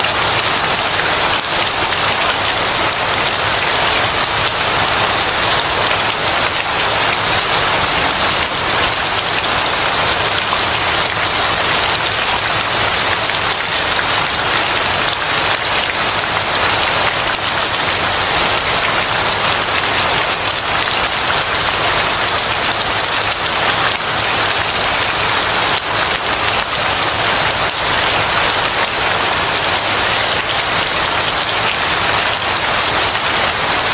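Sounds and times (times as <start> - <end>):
heavy rain pattering: 0.0 - 33.9.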